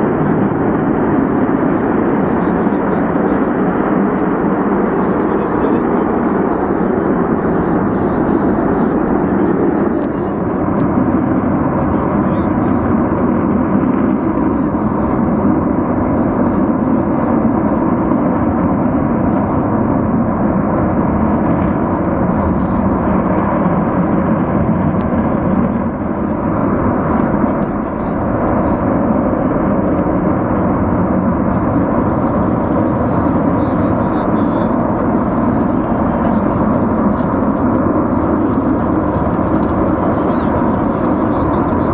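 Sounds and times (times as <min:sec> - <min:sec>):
gas rushing from burning pipeline: 0:00.0 - 0:41.9.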